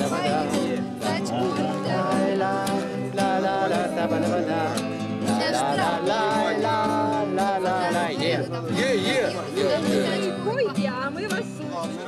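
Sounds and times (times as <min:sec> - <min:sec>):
man singing: 0:00.0 - 0:10.4
acoustic guitar: 0:00.0 - 0:12.0.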